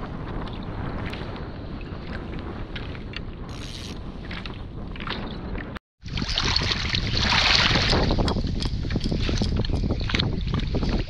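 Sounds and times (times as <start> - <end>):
choppy water: 0.0 - 11.0
wind buffeting microphone: 0.0 - 11.0.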